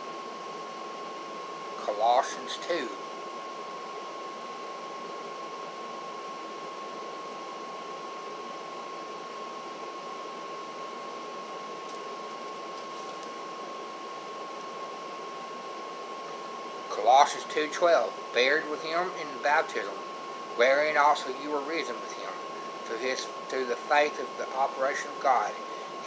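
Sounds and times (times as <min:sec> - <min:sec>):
fan hiss and whine: 0:00.0 - 0:26.0.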